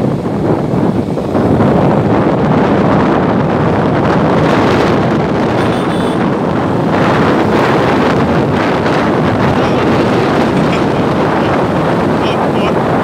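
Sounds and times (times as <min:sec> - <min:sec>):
low vehicle rumble: 0:00.0 - 0:13.0
wind buffeting microphone: 0:00.0 - 0:13.0.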